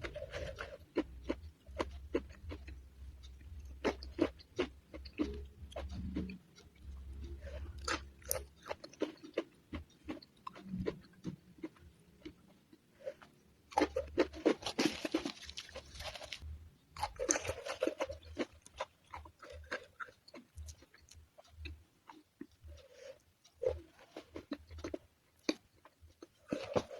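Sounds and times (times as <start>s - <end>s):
person chewing crunchy food: 0.0s - 26.9s.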